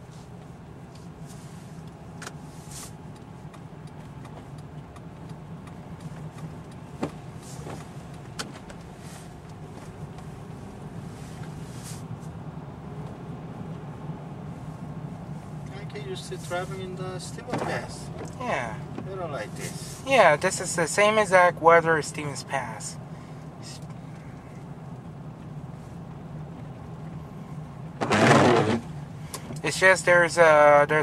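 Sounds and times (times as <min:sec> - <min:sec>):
car cabin driving hum: 0:00.0 - 0:31.0.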